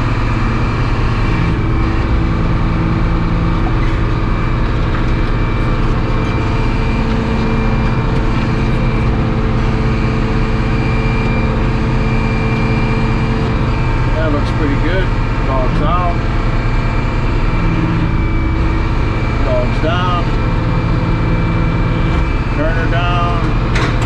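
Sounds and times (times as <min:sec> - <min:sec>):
hydraulic whining: 0:00.0 - 0:24.0
sawmill engine drone: 0:00.0 - 0:24.0.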